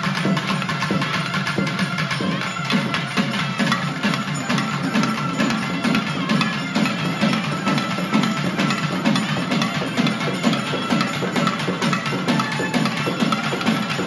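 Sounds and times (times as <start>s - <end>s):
rapid drumming: 0.0s - 14.0s
reed pipes playing melody: 0.9s - 14.0s.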